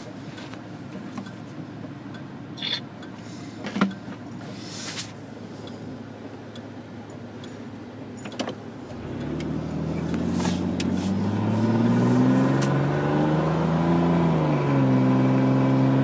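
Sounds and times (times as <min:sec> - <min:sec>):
truck exhaust droning: 0:02.1 - 0:16.0.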